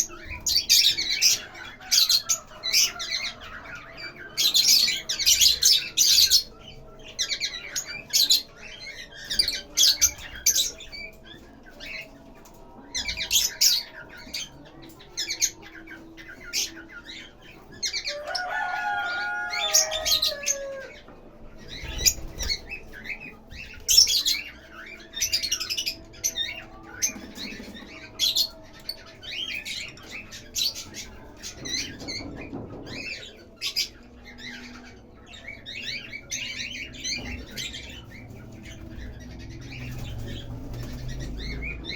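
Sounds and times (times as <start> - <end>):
lovebirds chirping and squawking: 0.0 - 41.9.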